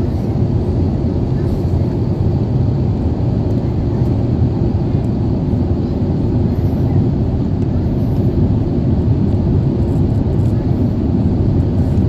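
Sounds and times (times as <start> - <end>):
airliner engines roaring: 0.0 - 12.0.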